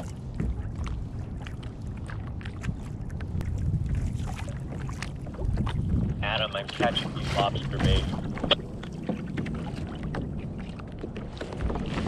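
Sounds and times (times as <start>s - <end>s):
water lapping against hull: 0.0s - 12.0s
wind rumble on microphone: 0.0s - 12.0s.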